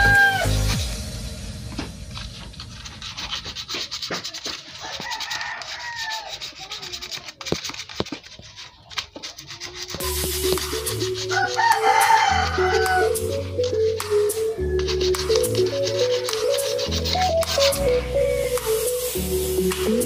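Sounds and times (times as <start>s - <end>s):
hand polishing metal cover: 2.2s - 19.2s.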